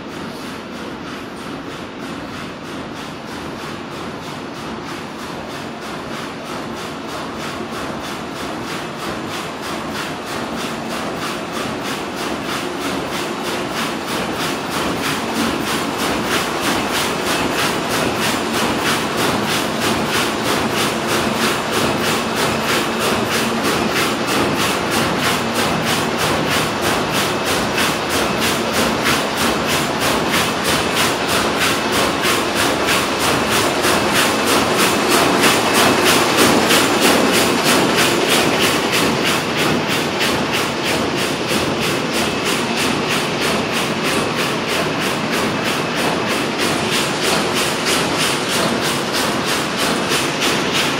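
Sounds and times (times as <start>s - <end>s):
weaving loom mechanical clatter: 0.0s - 50.9s.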